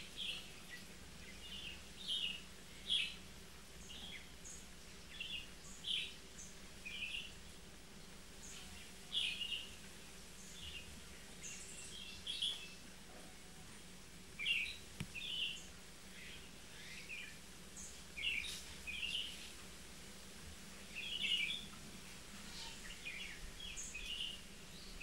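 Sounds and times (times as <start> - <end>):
birds chirping: 0.0 - 12.9, 14.3 - 19.6, 20.8 - 21.8, 22.4 - 25.0.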